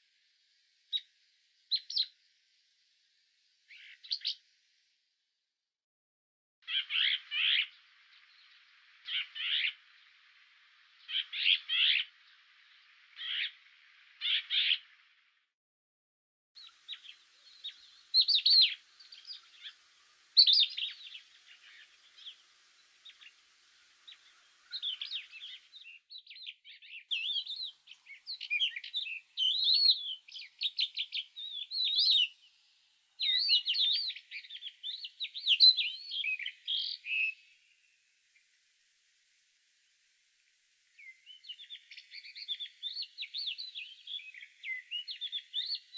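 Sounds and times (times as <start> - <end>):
songbird chirping and trilling: 0.0 - 2.4, 3.0 - 4.6, 6.6 - 15.4, 16.6 - 45.9.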